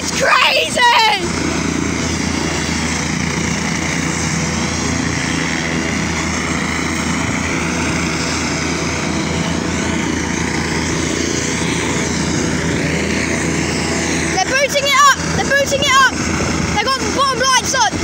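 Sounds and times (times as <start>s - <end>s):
helicopter engine and rotors: 0.0s - 18.0s.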